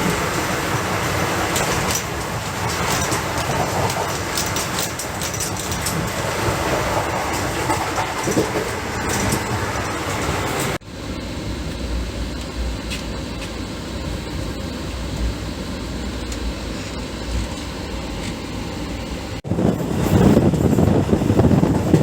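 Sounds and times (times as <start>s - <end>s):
passenger train rumbling: 0.0s - 22.0s.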